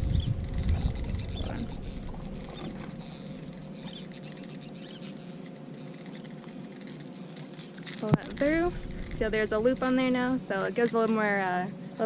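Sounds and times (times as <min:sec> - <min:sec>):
fishing line squeaking and scratching: 0:00.0 - 0:10.0
faint steady hum: 0:00.0 - 0:12.0.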